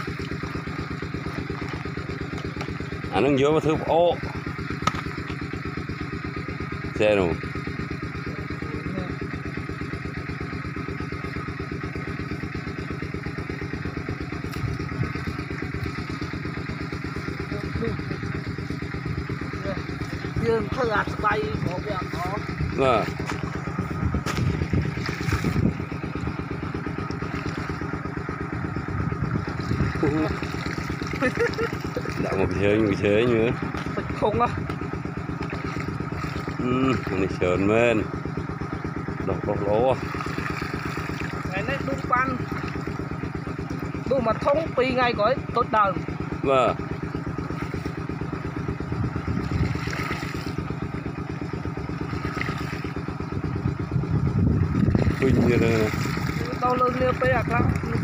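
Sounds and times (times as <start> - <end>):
small engine chugging: 0.0 - 58.0.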